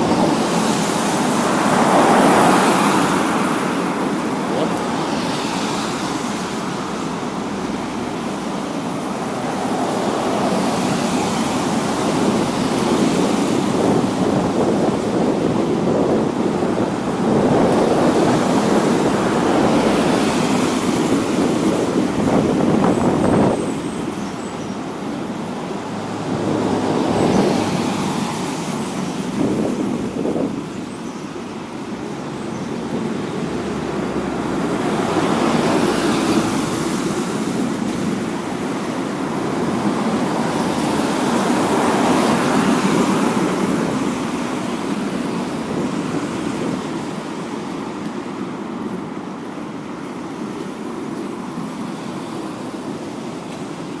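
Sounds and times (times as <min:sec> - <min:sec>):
cars passing on wet asphalt: 0:00.0 - 0:54.0.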